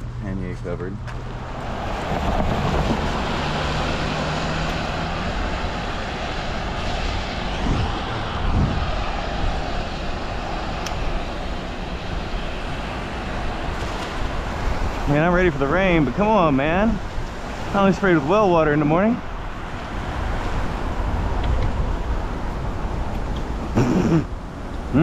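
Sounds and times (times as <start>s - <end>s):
bicycle tyres on wet road: 1.1s - 25.0s.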